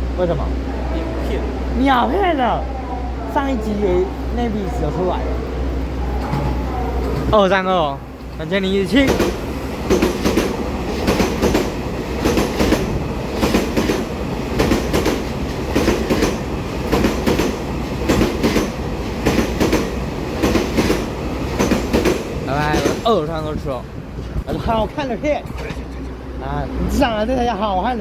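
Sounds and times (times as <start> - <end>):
train rolling past: 0.0 - 28.0.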